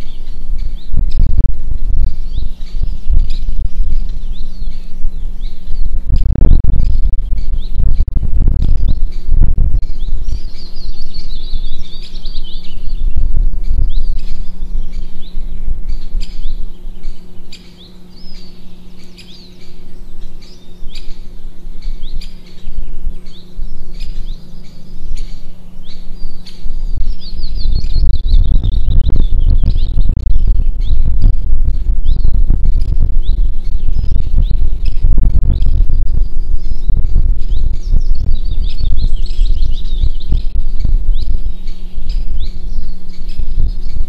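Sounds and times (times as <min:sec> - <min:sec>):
loud low rumble: 0:00.0 - 0:43.9
small birds chirping: 0:00.0 - 0:44.0
steady low hum: 0:00.0 - 0:44.0.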